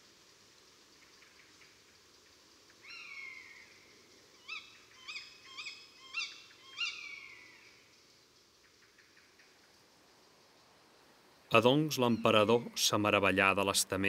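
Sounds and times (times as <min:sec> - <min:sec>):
faint steady background hiss: 0:00.0 - 0:14.0
bird calls: 0:01.0 - 0:10.8, 0:11.4 - 0:14.0.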